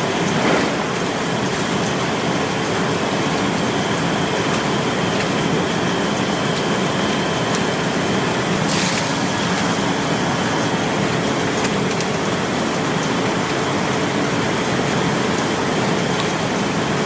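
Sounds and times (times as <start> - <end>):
factory noise rush: 0.0 - 17.0.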